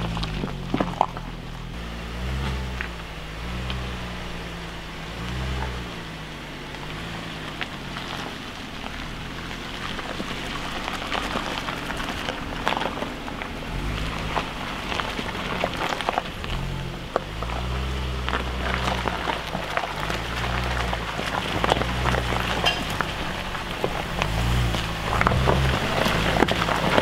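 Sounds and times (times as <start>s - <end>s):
car engine revving: 0.0s - 27.0s
tyres crunching over stones: 0.0s - 27.0s
tyres splashing through gravel: 0.0s - 27.0s.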